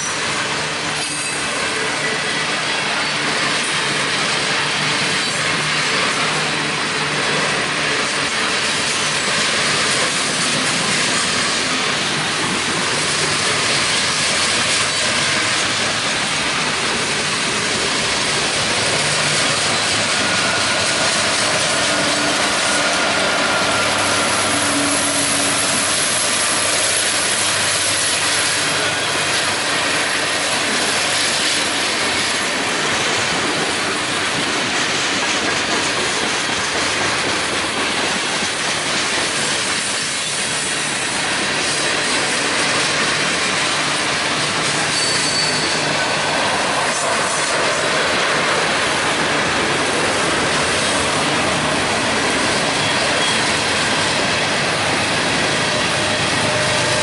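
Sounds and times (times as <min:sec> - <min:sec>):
diesel locomotive engine drone: 0:00.0 - 0:57.0
train cars rattling on rails: 0:00.0 - 0:57.0.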